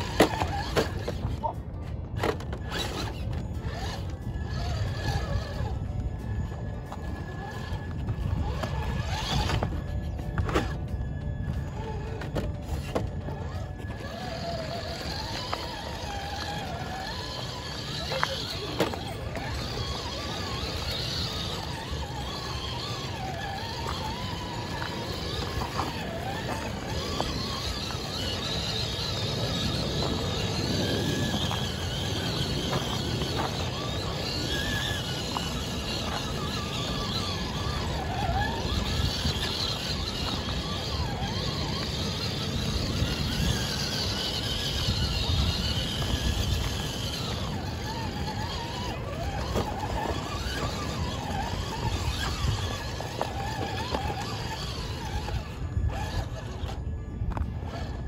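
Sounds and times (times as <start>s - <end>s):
electric motor and gears whining: 0.0s - 58.0s.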